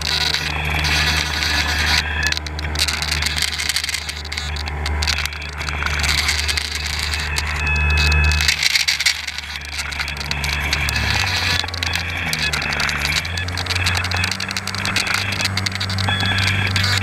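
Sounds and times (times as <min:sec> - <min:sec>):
model boat motor and propeller: 0:00.0 - 0:17.0
servo whine: 0:00.0 - 0:17.0.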